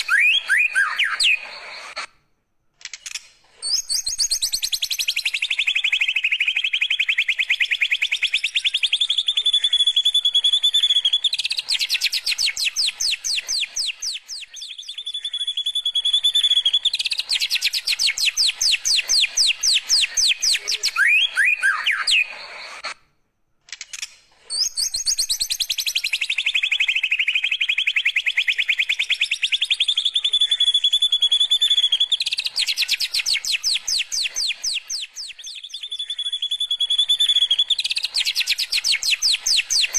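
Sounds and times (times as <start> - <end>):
shama bird singing trills: 0.0 - 2.1, 3.6 - 22.9, 24.5 - 39.9.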